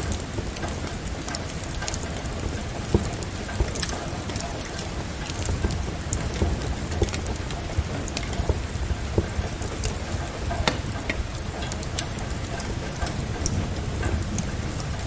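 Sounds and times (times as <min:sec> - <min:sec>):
steady rain hiss: 0:00.0 - 0:15.0
wood fire crackling: 0:00.0 - 0:15.0.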